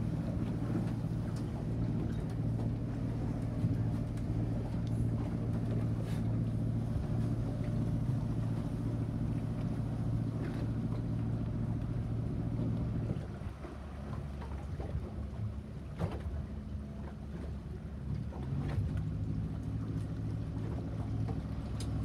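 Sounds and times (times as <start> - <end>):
diesel engine running low speed: 0.0 - 22.0.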